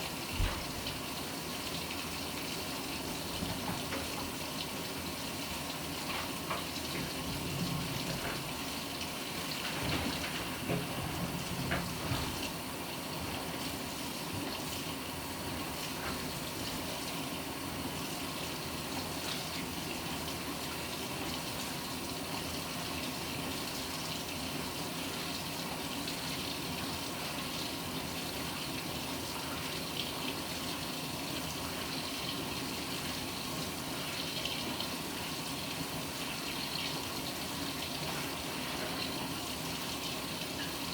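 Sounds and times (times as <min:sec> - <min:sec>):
water rushing in washing machine: 0:00.0 - 0:40.9.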